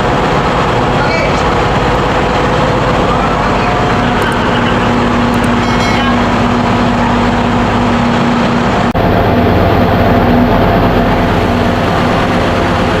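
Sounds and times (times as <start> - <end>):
engine-room machinery din: 0.0 - 13.0.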